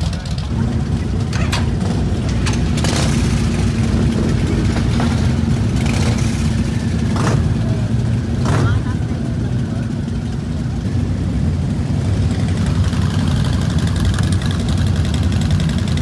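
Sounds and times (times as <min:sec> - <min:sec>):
motorcycles idling: 0:00.0 - 0:16.0.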